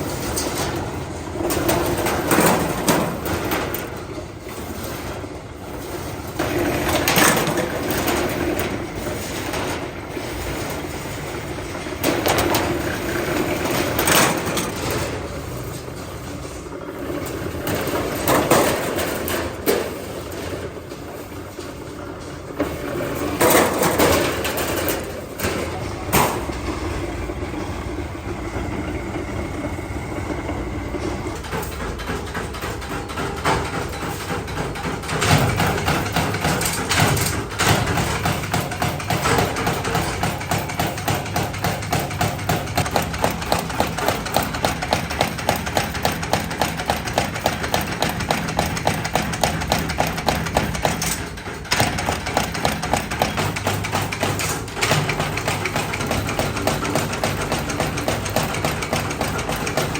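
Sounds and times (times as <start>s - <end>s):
metalworking machinery running: 0.0s - 59.9s.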